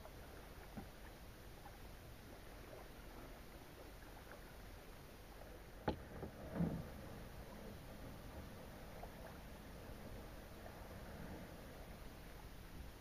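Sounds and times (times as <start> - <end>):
kayak paddling: 0.0 - 13.0
water lapping: 0.0 - 13.0.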